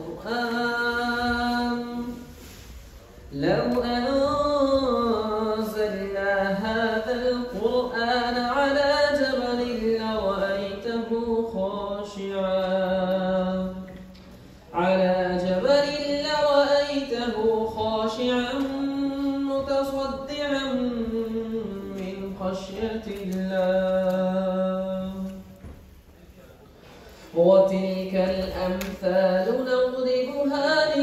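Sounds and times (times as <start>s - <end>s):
young man reciting melodically: 0.0s - 31.0s.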